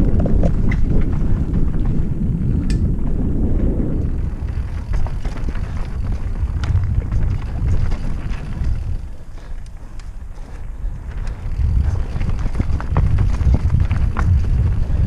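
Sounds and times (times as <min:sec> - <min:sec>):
bike clicks and rattles: 0:00.0 - 0:15.0
wind rumble on microphone: 0:00.0 - 0:15.0.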